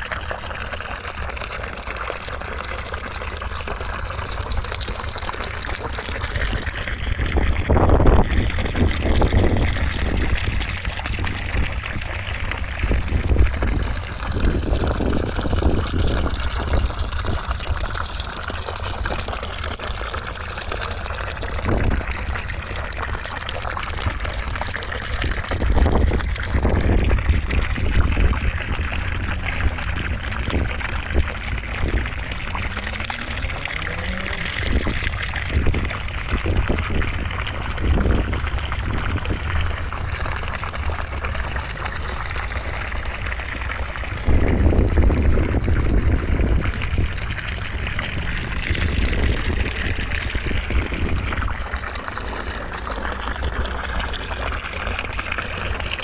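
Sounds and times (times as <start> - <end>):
gushing running water: 0.0 - 56.0.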